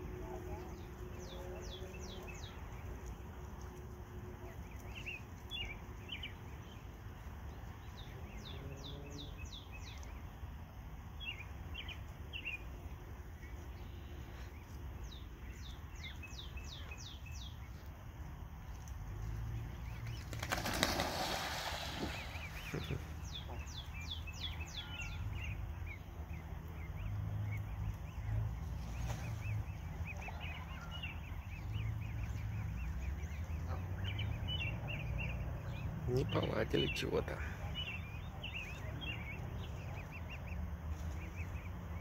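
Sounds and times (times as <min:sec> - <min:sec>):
small bird singing: 0:00.0 - 0:21.1, 0:22.0 - 0:42.0
geese flapping and splashing: 0:00.0 - 0:42.0
light bird chirping: 0:00.0 - 0:42.0.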